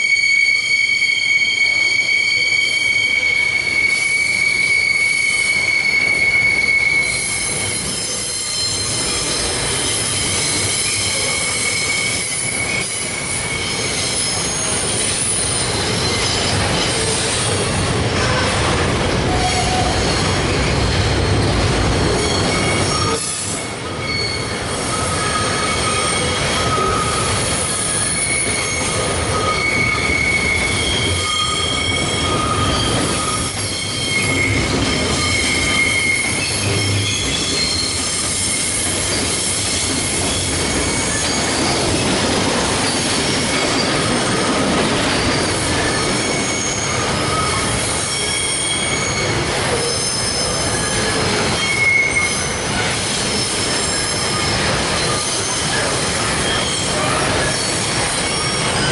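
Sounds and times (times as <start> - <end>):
wheel squeals: 0.0 - 18.5, 19.3 - 58.9
freight train rumble and clatter: 0.0 - 58.9.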